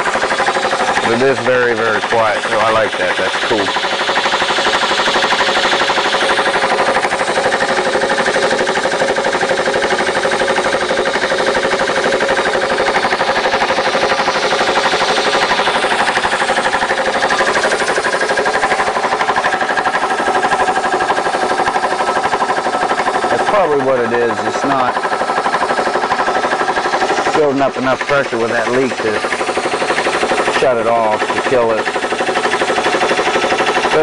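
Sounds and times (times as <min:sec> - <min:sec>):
air compressor chugging: 0:00.0 - 0:34.0.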